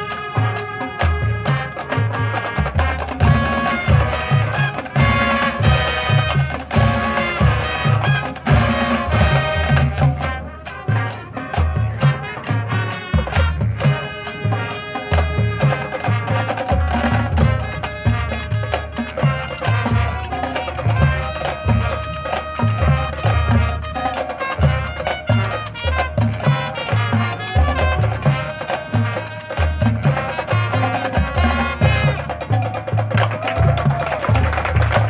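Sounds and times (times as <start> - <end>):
brass chords: 0.0 - 35.0
low drums beating: 0.0 - 35.0.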